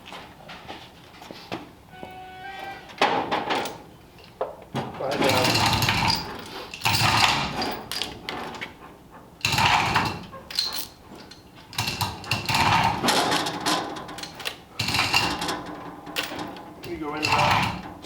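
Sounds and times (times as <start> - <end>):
metal tools clanking and rattling: 2.6 - 8.6, 9.4 - 18.0.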